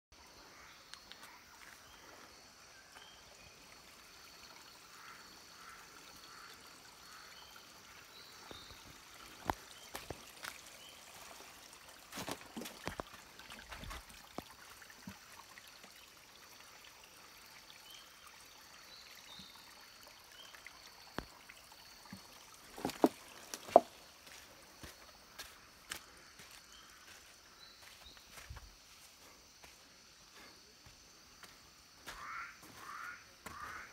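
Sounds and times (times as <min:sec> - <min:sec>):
insect drone: 0:00.2 - 0:09.5, 0:13.9 - 0:33.9.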